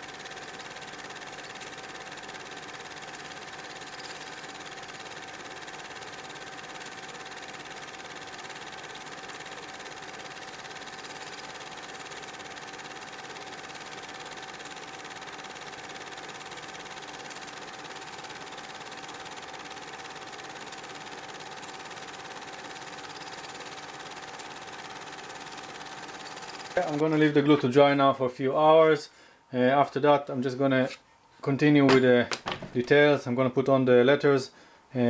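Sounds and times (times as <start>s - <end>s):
steady mechanical hum: 0.0s - 35.0s.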